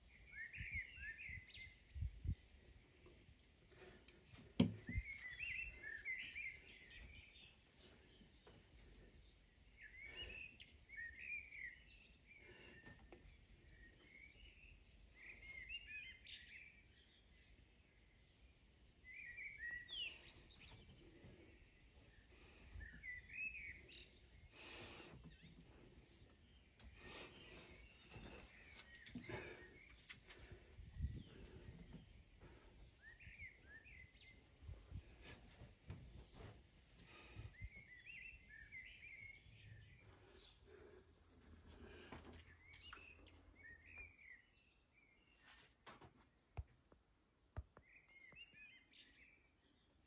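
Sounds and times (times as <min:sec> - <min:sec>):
faint birdsong chirps: 0:00.0 - 0:50.0.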